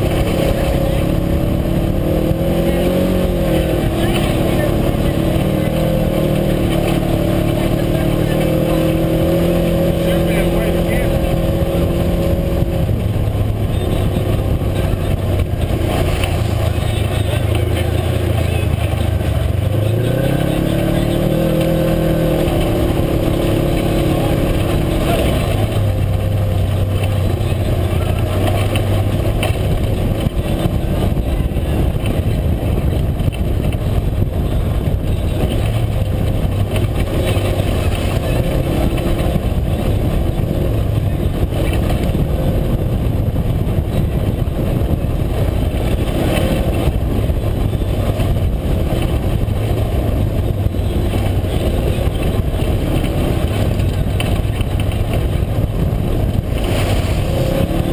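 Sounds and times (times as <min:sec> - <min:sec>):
driving noise: 0:00.0 - 0:57.9
vehicle engine revving: 0:00.0 - 0:57.9.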